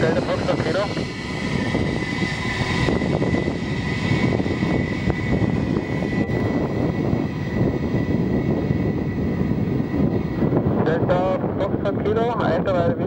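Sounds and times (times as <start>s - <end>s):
jet engines whining and roaring: 0.0s - 13.0s.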